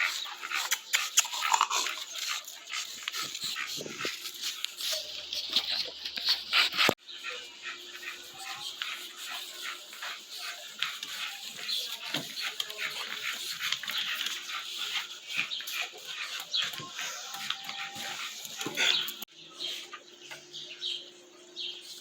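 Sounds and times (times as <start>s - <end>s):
puppies whimpering and squeaking: 0.0s - 19.9s.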